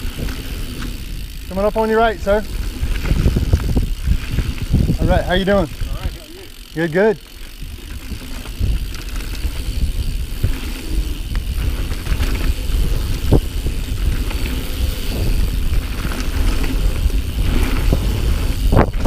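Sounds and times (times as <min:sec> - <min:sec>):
wind on microphone: 0:00.0 - 0:06.3, 0:07.5 - 0:19.0
bike clicks and rattles: 0:00.0 - 0:19.0
tyre noise on dirt: 0:00.0 - 0:19.0.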